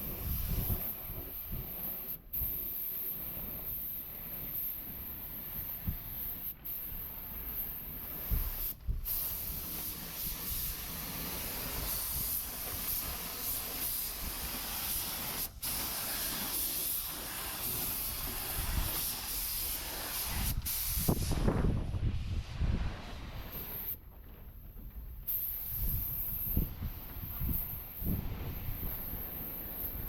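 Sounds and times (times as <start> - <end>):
spray tool hissing: 0.0 - 24.0, 25.3 - 30.0.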